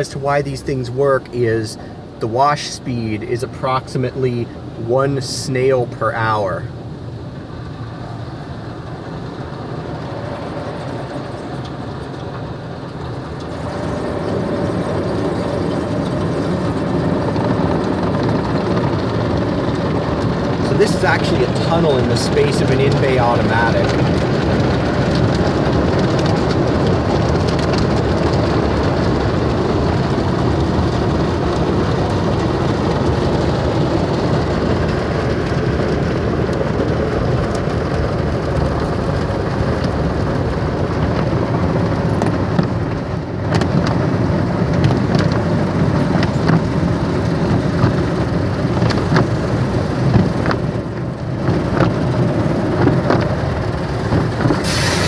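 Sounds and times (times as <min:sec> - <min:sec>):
car wash water spray: 0:00.0 - 0:55.0.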